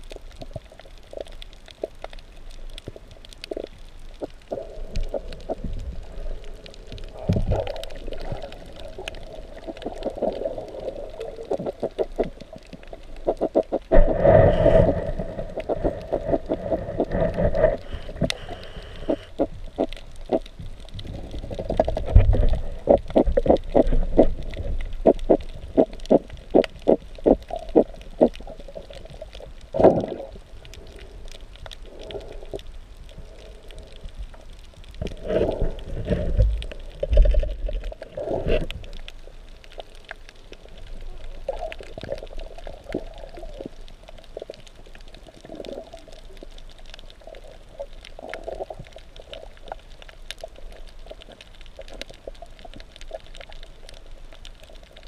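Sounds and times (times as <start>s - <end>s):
water swishing: 0.0s - 55.0s.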